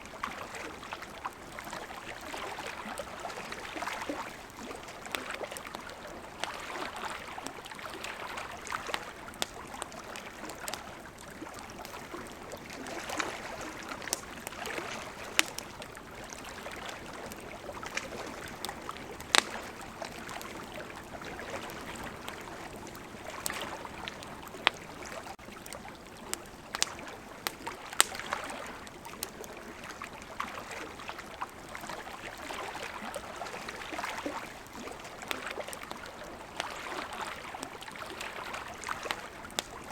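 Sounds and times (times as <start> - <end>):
river water flowing: 0.0 - 39.9
campfire crackling and popping: 0.1 - 39.9.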